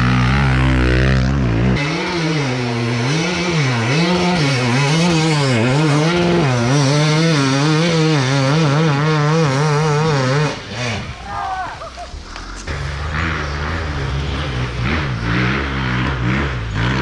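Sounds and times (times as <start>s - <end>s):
two-stroke motorbike engine revving: 0.0s - 11.3s, 12.2s - 17.0s.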